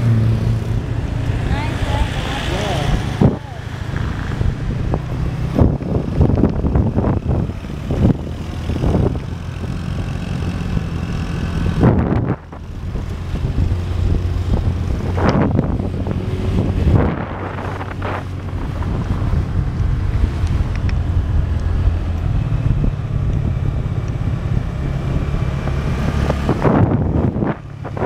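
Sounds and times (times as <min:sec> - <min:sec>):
motorbike engine humming: 0:00.0 - 0:28.0
wind buffeting microphone: 0:00.0 - 0:28.0.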